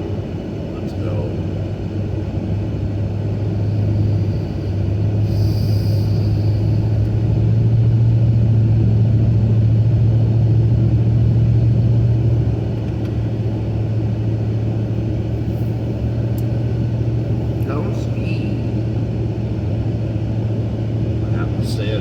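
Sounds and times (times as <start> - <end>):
car interior rumble: 0.0 - 22.0.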